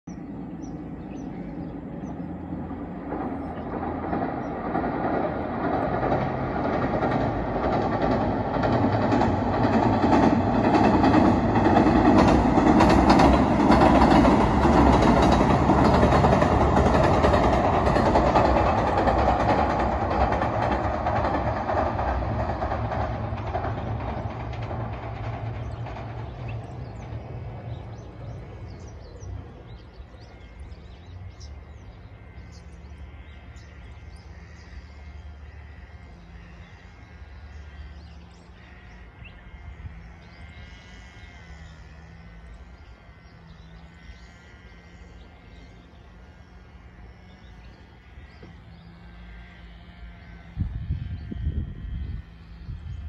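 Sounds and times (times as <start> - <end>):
train rumbling over bridge: 0.1 - 53.0.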